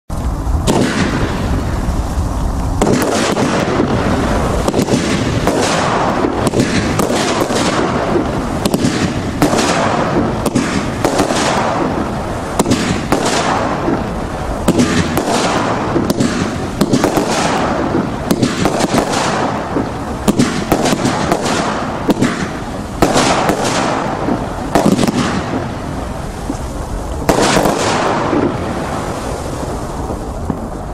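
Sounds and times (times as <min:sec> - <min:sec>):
noisy hiss: 0:00.1 - 0:30.9
firework shots bursting: 0:00.2 - 0:30.9.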